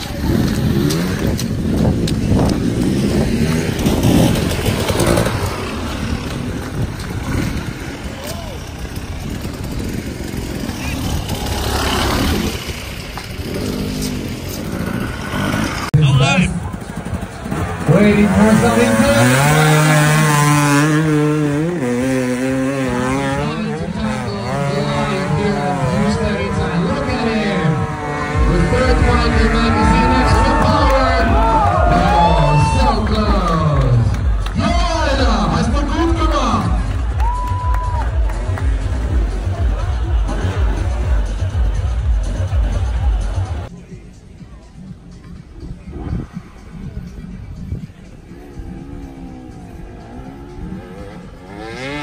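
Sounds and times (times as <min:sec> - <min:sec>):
dirt bike engine revving: 0:00.0 - 0:33.4, 0:38.3 - 0:43.7, 0:48.2 - 0:52.0.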